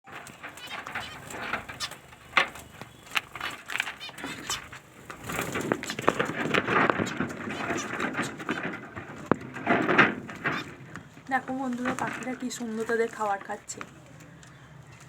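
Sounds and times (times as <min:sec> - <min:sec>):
bird calls: 0:00.1 - 0:15.0.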